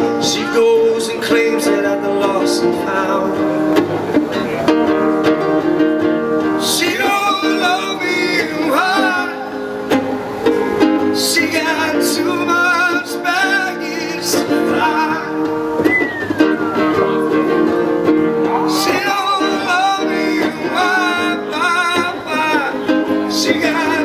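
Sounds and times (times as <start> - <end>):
person singing: 0.0 - 3.7, 6.5 - 9.9, 11.0 - 17.8, 18.4 - 24.0.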